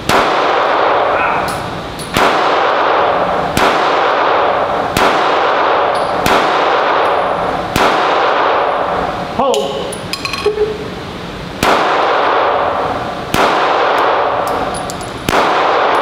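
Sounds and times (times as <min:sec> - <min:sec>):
handgun shots echoing: 0:00.0 - 0:08.8, 0:11.6 - 0:16.0.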